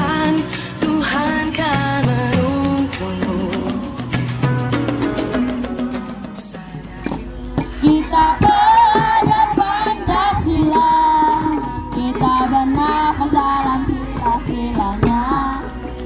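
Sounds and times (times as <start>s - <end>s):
percussive beat: 0.0s - 16.0s.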